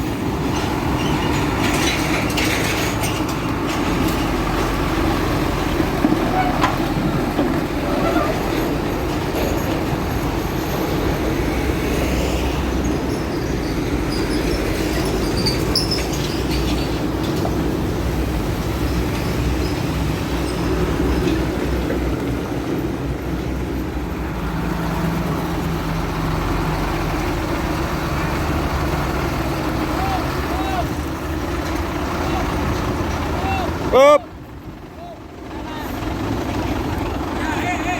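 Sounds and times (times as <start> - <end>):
concrete mixer truck diesel rumble: 0.0 - 37.9.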